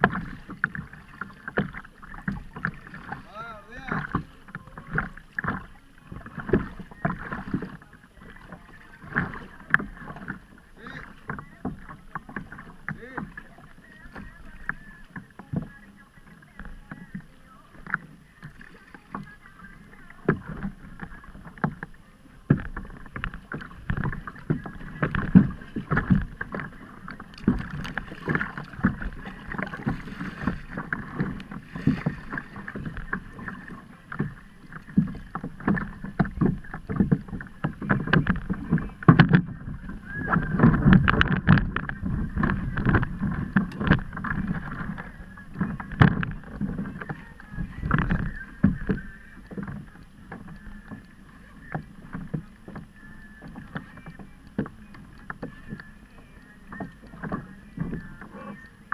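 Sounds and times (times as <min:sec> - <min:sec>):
knocks and bumps on hull: 0:00.0 - 0:58.9
water slapping against kayak hull: 0:00.0 - 0:58.9.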